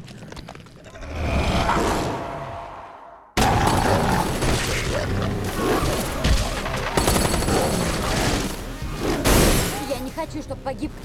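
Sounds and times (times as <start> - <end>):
action film sound effects: 0.2 - 11.0.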